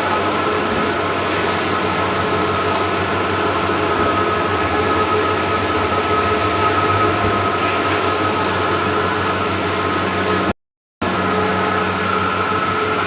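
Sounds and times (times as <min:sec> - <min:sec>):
printer running: 0:00.0 - 0:13.0.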